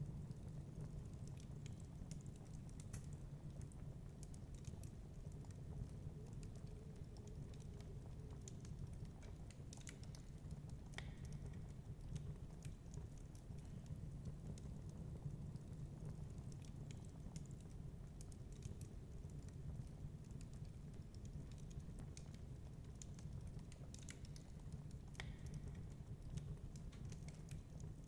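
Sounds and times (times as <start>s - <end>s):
low steady fire rumble: 0.0s - 28.0s
wood fire snaps and pops: 0.0s - 28.0s.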